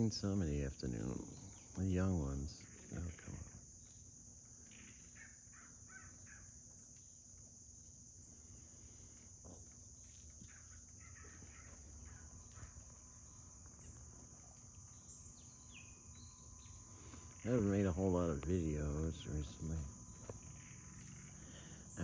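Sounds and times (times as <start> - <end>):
high-pitched insect chorus: 0.0 - 22.0
soft insect chirps: 0.0 - 22.0.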